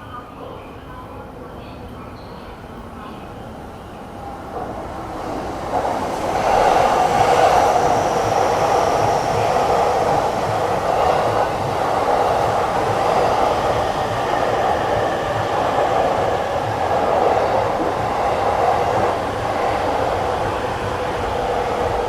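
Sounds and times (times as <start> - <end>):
train wheels rolling on rails: 4.0 - 22.0
wind buffeting microphone: 4.2 - 22.0.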